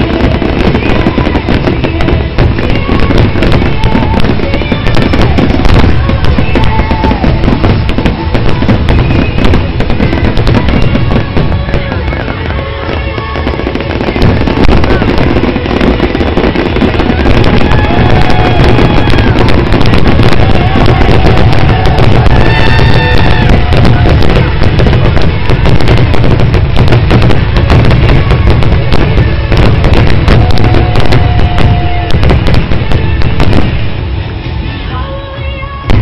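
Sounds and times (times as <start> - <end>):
fireworks bursts and crackle: 0.0 - 36.0
music over loudspeakers: 0.0 - 36.0.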